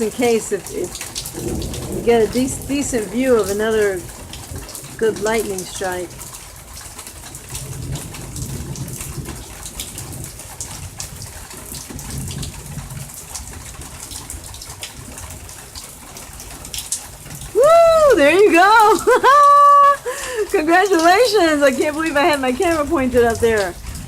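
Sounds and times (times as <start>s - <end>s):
drops dripping: 0.0s - 24.0s
faint low thunder rumble: 0.0s - 24.0s
steady rain: 0.0s - 24.0s.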